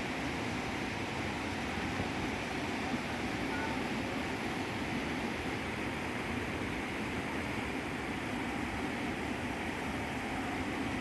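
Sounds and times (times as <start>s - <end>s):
rushing river water: 0.0s - 11.0s.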